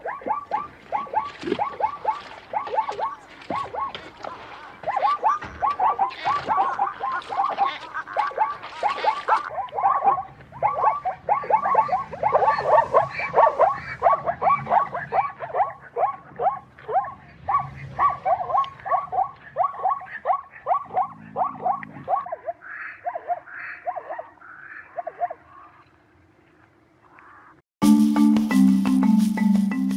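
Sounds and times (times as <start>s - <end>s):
zebra barking: 0.0s - 25.8s.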